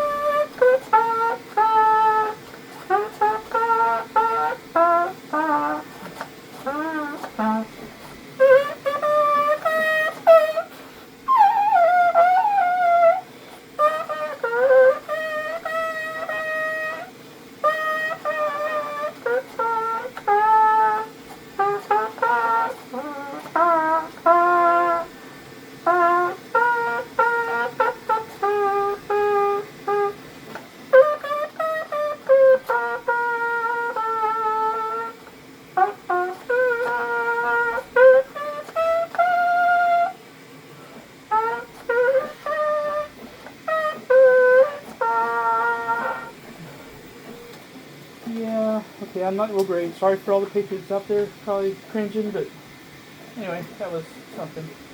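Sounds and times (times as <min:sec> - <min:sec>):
trumpet playing slow melody: 0:00.0 - 0:48.4.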